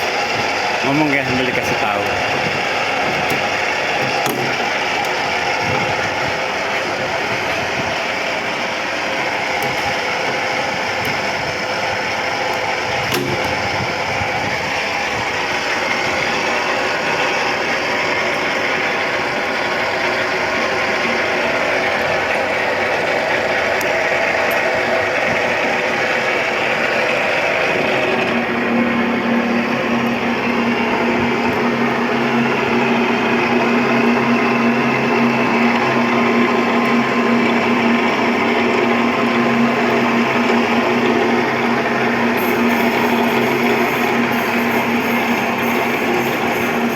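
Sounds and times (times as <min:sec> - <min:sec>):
pipe threading machine running: 0:00.0 - 0:46.9.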